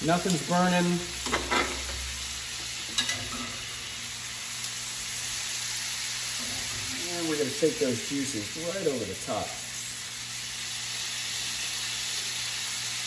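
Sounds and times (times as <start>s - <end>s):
steaks sizzling in a pan: 0.0s - 13.0s.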